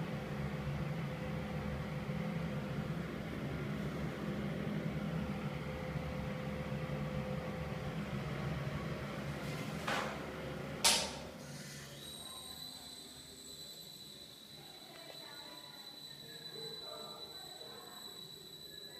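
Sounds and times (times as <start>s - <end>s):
exhaust fan humming: 0.0s - 18.0s.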